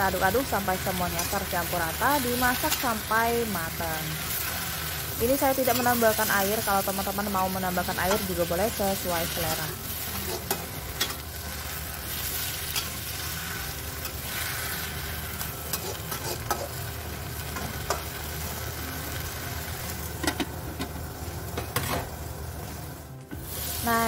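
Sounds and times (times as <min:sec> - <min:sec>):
food sizzling in a wok: 0:00.0 - 0:24.0.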